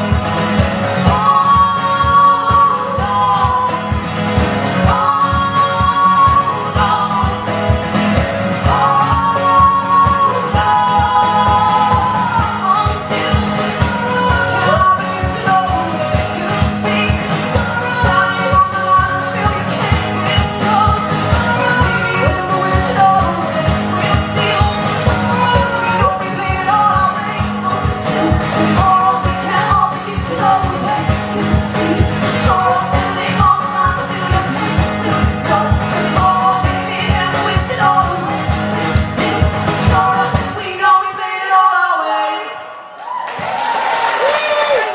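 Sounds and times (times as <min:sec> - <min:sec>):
strummed acoustic guitars: 0:00.0 - 0:40.9
women singing in harmony: 0:00.9 - 0:42.9.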